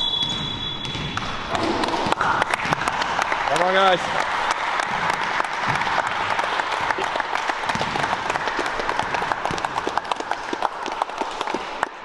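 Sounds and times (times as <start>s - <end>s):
people clapping hands: 1.2s - 12.0s.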